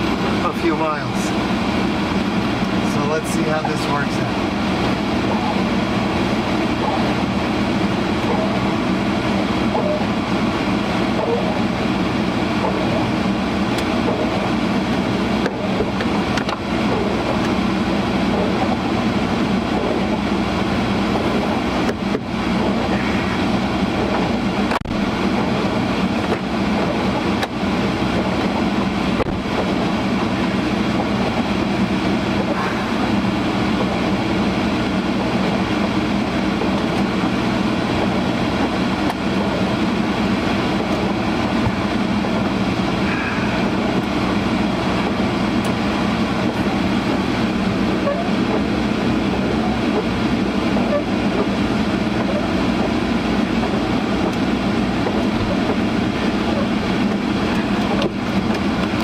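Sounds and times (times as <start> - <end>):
car defroster blower rushing air: 0.0 - 59.0.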